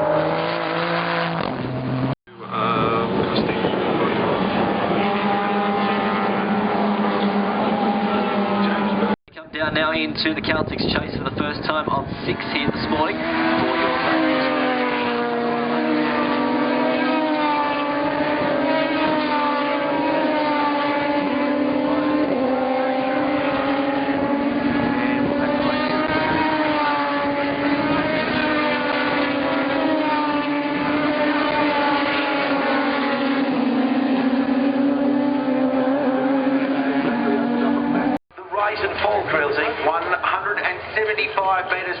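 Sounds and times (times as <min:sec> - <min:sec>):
race car engines running: 0:00.0 - 0:09.2, 0:10.0 - 0:42.0.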